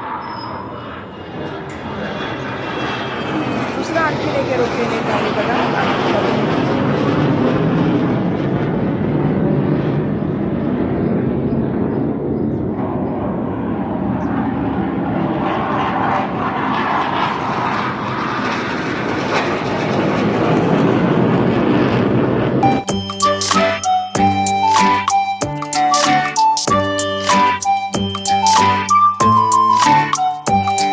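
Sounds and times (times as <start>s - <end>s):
airplane engine drone: 0.0s - 30.9s.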